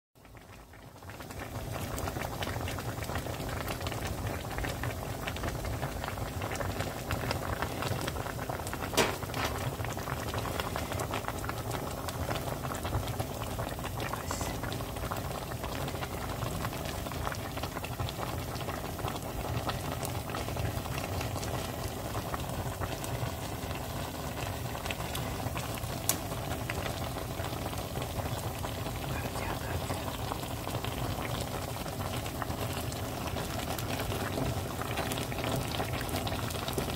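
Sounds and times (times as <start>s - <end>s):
stew boiling and bubbling: 0.2s - 36.9s.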